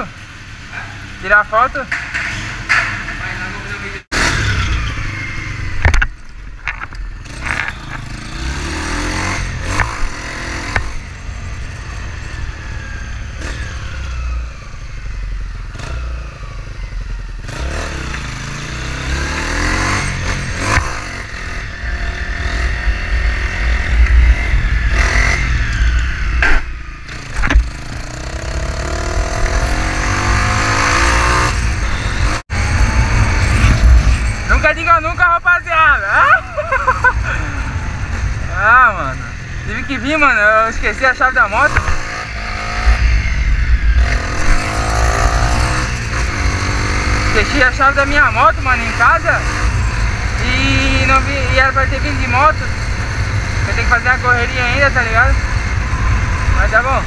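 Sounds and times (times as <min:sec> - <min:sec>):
small motorcycle engine revving: 0:00.0 - 0:57.0.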